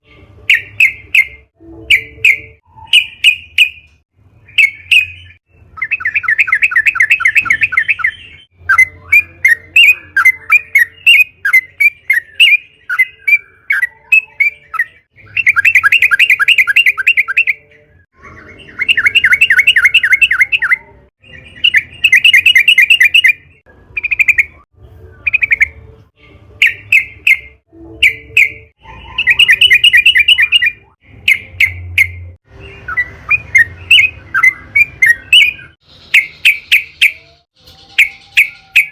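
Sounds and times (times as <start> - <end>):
bird chirps: 0.0 - 38.9.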